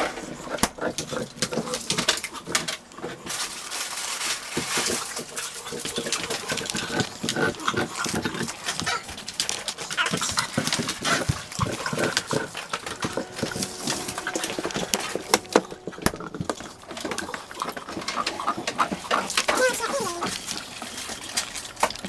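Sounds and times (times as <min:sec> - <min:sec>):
dog chewing plastic bottle: 0:00.0 - 0:22.0.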